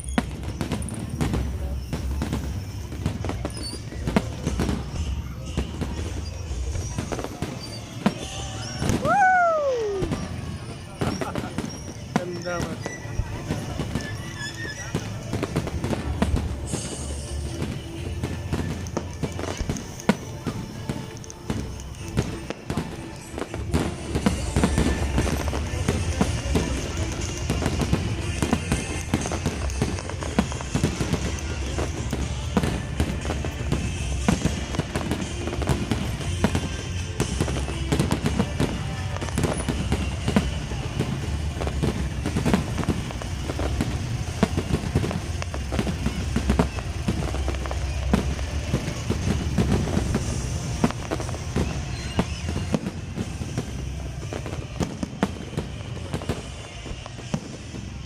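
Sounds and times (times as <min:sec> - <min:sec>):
fireworks cracking and banging: 0:00.0 - 0:58.0
music playing: 0:00.0 - 0:58.0.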